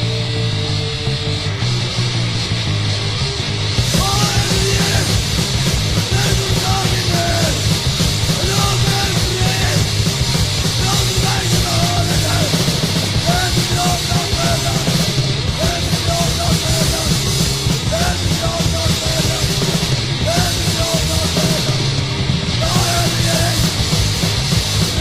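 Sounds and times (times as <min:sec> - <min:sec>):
punk band playing: 0:00.0 - 0:25.0.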